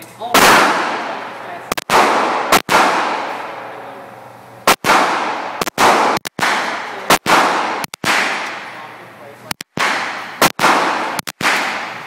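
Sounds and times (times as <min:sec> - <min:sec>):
gunshots with echo: 0:00.3 - 0:03.9, 0:04.6 - 0:08.8, 0:09.5 - 0:12.0.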